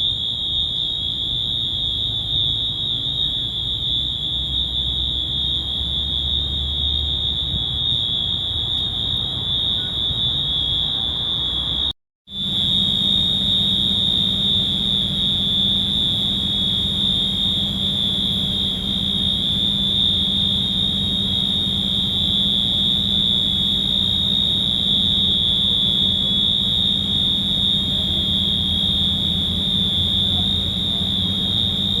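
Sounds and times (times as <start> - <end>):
fire alarm high-pitched tone: 0.0 - 32.0.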